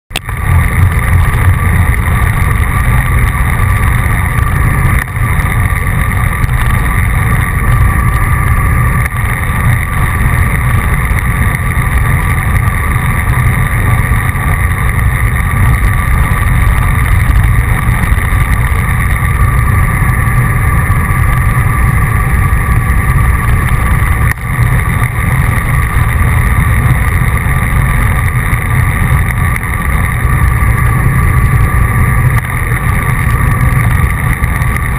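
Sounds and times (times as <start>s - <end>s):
faint steady whine: 0.1s - 34.9s
wind rumbling over microphone: 0.1s - 34.9s.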